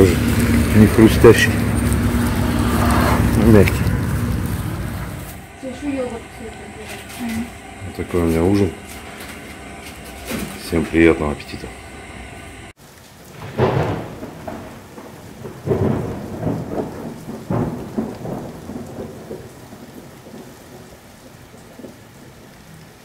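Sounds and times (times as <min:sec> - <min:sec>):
thunder rolling: 0:00.0 - 0:22.3
rain hissing: 0:00.0 - 0:23.0.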